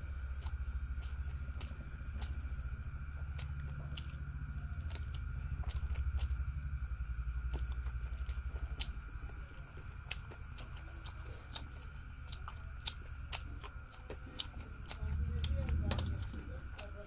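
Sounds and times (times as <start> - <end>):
person chewing with mouth smacks: 0.0 - 17.0
steady low hum: 0.0 - 17.0.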